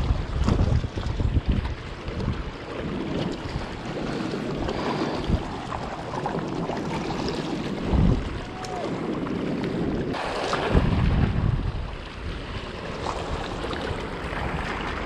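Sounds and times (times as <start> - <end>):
small waves washing on rocks: 0.0 - 15.0
wind buffeting microphone: 0.0 - 15.0.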